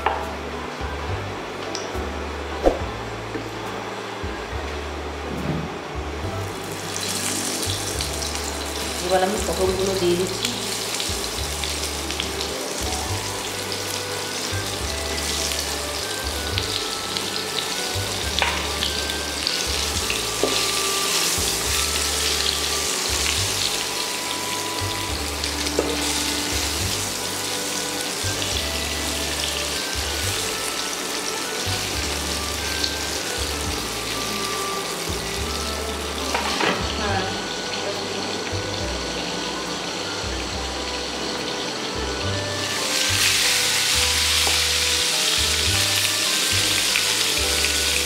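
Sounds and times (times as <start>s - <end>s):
vegetables sizzling in oil: 6.3s - 48.0s.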